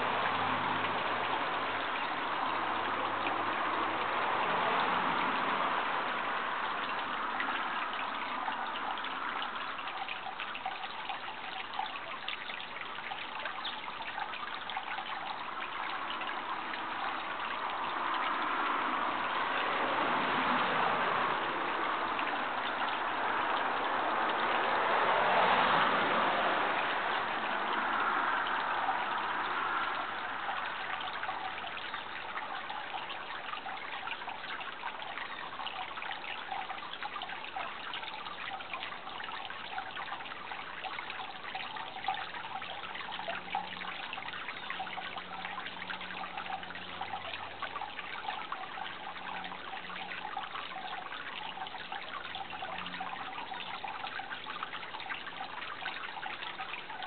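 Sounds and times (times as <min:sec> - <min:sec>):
water rushing: 0:00.0 - 0:57.0
water trickling: 0:00.0 - 0:57.0.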